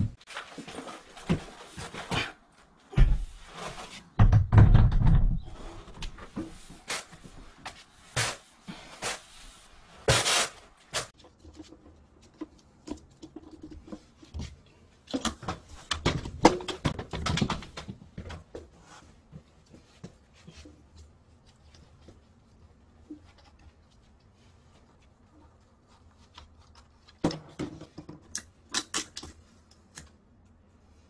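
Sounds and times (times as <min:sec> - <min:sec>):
knocks and scrapes: 0:00.0 - 0:28.3.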